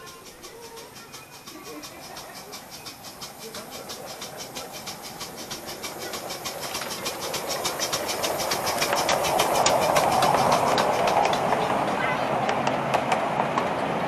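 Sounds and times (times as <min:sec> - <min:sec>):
miniature steam locomotive running: 0:00.0 - 0:14.0.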